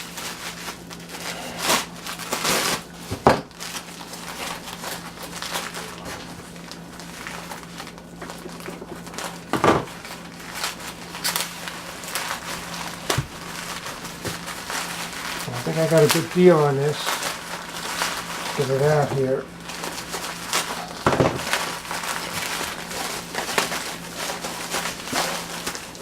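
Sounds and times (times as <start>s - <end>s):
bubble wrap crinkling: 0.0s - 26.0s.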